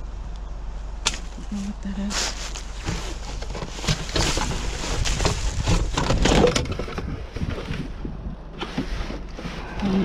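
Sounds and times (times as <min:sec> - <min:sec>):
low steady rumble: 0:00.0 - 0:10.0
trash bags rustling and knocking: 0:01.1 - 0:10.0.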